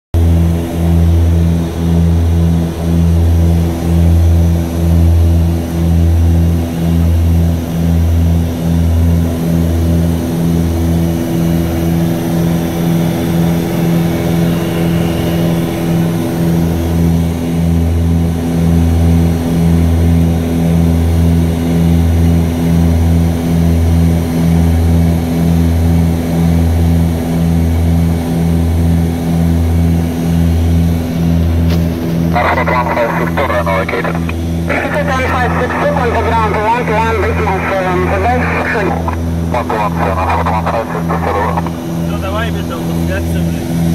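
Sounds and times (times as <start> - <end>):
turboprop engines droning: 0.2 - 43.9.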